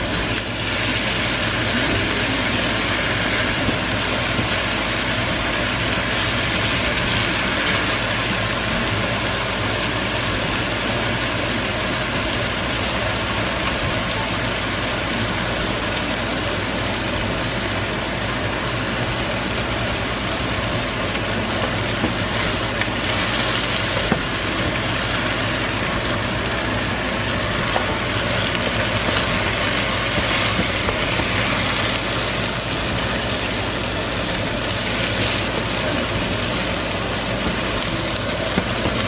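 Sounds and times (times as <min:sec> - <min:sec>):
rice and chicken sizzling in pan: 0:00.0 - 0:39.0
steady mechanical hum: 0:00.0 - 0:39.0.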